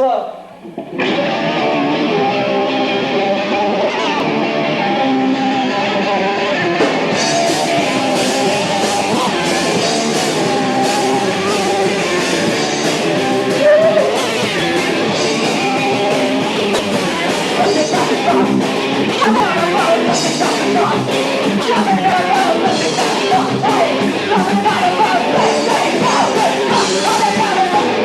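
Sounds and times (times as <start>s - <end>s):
loud electric guitar: 0.0s - 28.0s
punk rock band playing: 0.0s - 28.0s.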